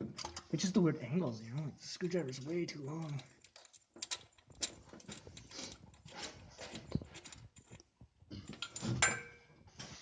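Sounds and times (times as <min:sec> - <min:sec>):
hand tools clicking and scraping: 0:01.4 - 0:10.0.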